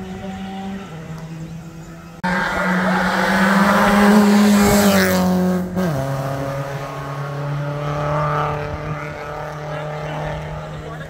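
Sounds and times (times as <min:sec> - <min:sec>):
rally car engine passing by: 0:00.0 - 0:11.0.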